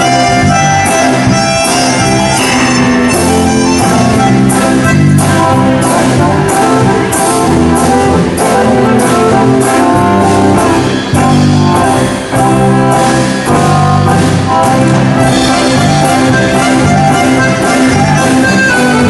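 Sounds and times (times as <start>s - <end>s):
loud band music: 0.0s - 19.0s.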